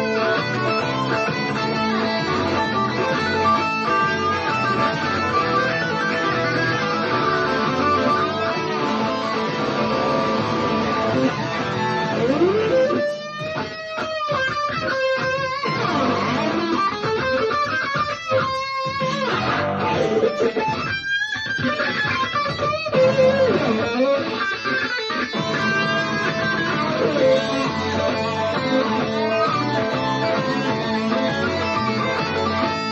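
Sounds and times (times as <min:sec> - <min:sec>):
blues backing track: 0:00.0 - 0:32.9
blues guitar lead: 0:00.0 - 0:32.9.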